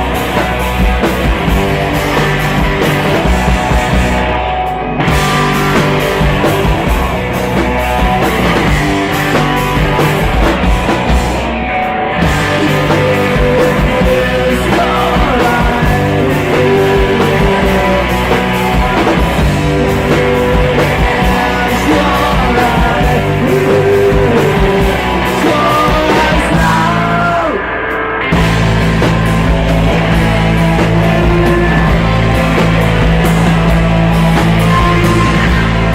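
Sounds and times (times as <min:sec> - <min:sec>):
drums with steady beat: 0:00.0 - 0:35.9
electric guitar: 0:00.0 - 0:35.9.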